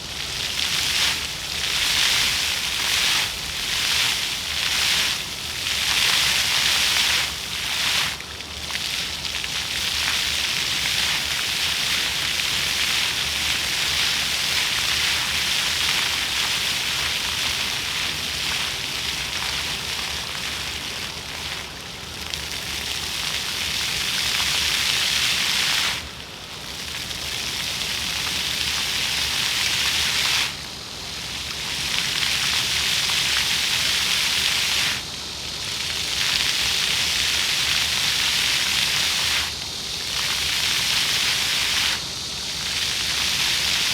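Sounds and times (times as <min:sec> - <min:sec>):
fountain jets splashing on pavement: 0:00.0 - 0:43.9.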